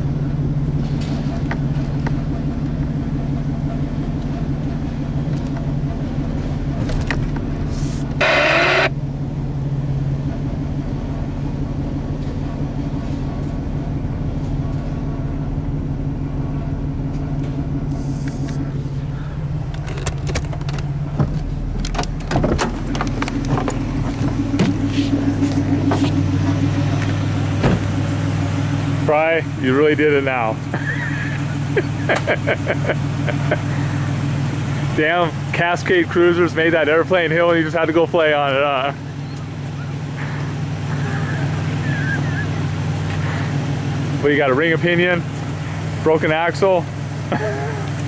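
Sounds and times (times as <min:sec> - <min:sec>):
vehicle engine idling: 0:00.0 - 0:48.0.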